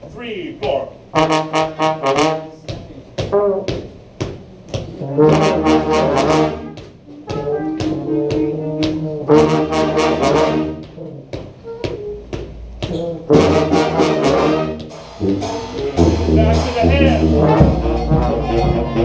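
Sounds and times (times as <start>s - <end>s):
brass band playing funk: 1.1s - 4.2s, 4.9s - 12.2s, 12.9s - 19.0s.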